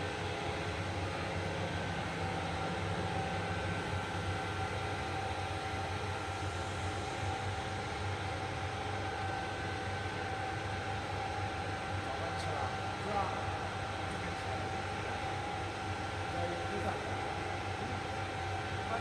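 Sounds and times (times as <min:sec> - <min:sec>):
machinery humming and whining: 0:00.0 - 0:19.0.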